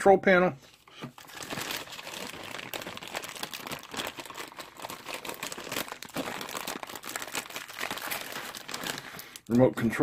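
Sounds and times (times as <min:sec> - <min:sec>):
plastic bag crinkling: 0:00.8 - 0:09.7.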